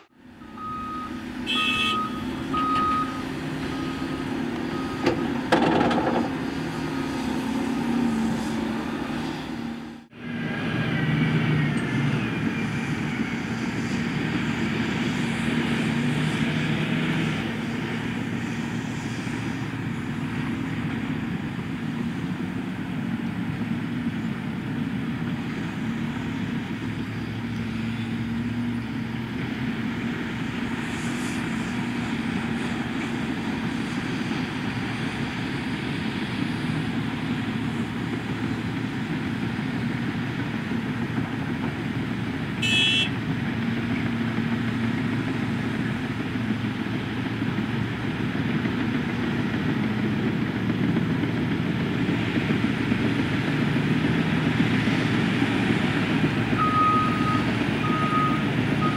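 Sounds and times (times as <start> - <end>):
diesel engines running under load: 0.0 - 58.9.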